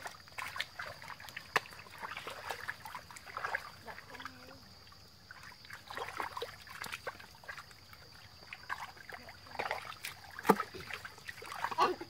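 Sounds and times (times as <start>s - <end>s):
sharp splash: 0.0s - 4.6s, 5.3s - 12.0s
hands sloshing in muddy water: 0.0s - 12.0s.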